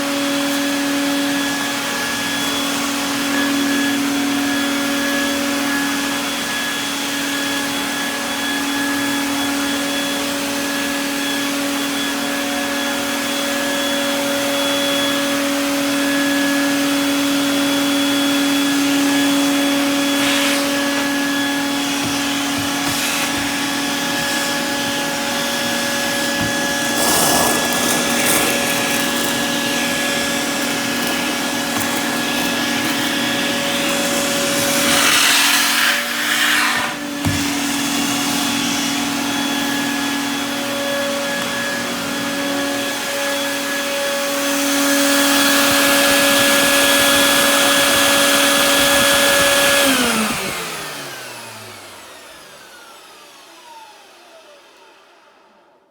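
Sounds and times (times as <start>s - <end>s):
shop vacuum motor whine: 0.0s - 55.9s.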